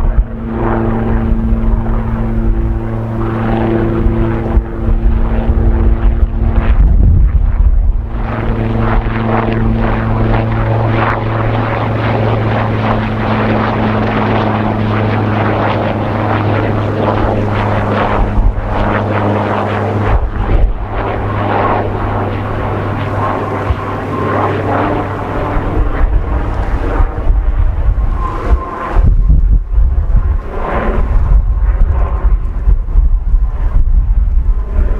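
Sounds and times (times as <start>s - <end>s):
helicopter engine and rotor: 0.0s - 34.9s
wind buffeting microphone: 0.0s - 34.9s.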